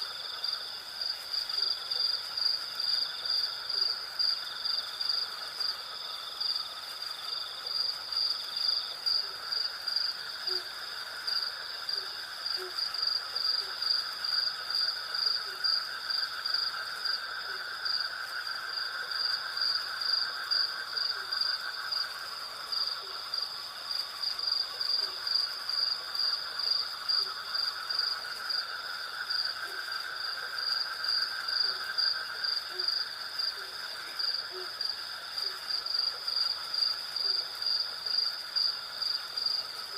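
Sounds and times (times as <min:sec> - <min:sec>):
pulsing insect chirp: 0:00.0 - 0:39.9
steady insect trilling: 0:00.0 - 0:39.9.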